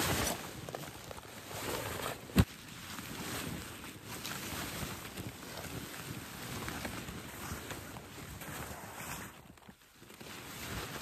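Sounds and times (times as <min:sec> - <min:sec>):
nylon tent rustling and flapping: 0:00.0 - 0:11.0.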